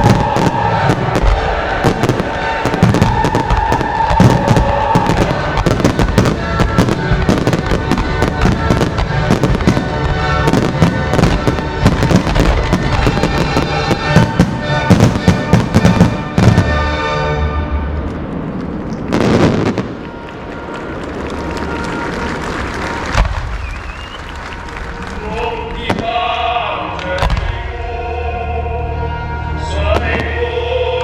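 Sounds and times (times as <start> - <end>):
fireworks bangs and crackles: 0.0 - 17.2, 17.9 - 27.8, 29.9 - 30.5
music playing: 0.0 - 31.0.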